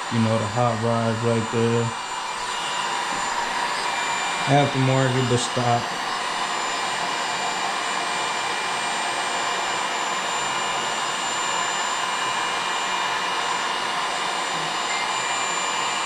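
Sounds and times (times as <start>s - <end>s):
heat gun hissing: 0.0s - 16.0s.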